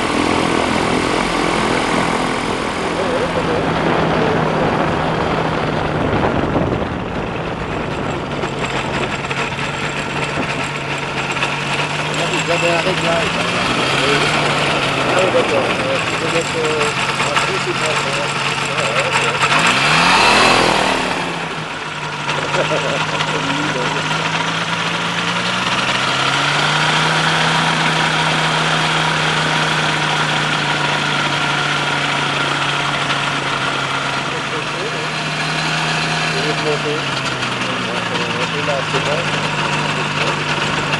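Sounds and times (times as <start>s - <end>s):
microlight engine and propeller: 0.0s - 40.9s.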